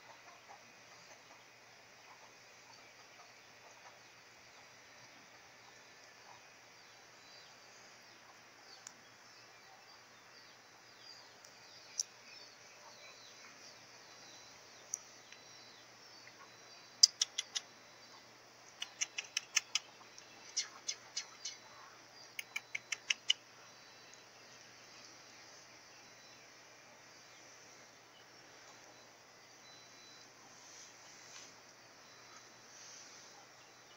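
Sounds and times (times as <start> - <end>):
bird chirping: 0.0 - 33.9
faint steady hiss: 0.0 - 33.9.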